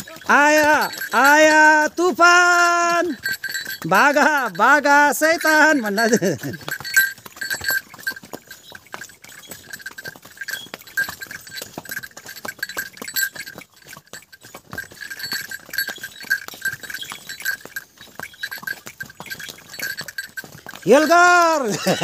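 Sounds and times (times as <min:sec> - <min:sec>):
hooves clopping on stone: 0:00.0 - 0:22.0
horse bell ringing: 0:00.0 - 0:22.0.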